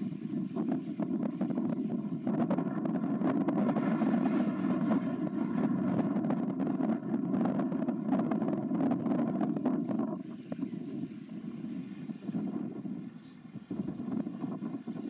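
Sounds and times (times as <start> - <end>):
marine engines rumbling: 0.0 - 15.0.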